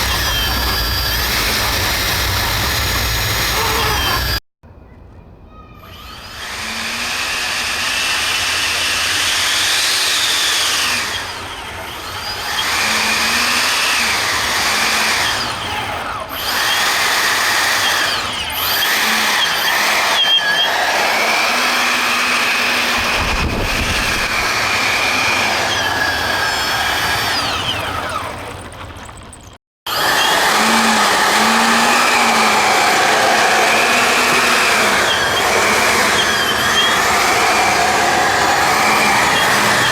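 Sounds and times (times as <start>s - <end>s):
electric ducted fans whining: 0.0s - 4.4s, 5.1s - 39.9s.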